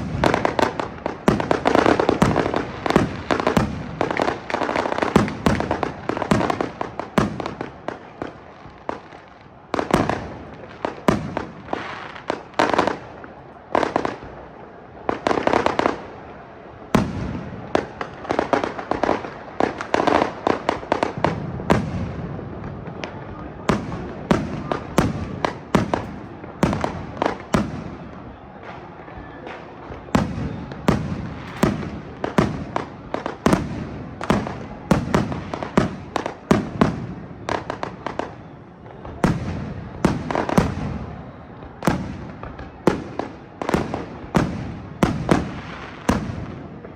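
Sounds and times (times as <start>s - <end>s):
fireworks and firecrackers banging: 0.0s - 46.9s.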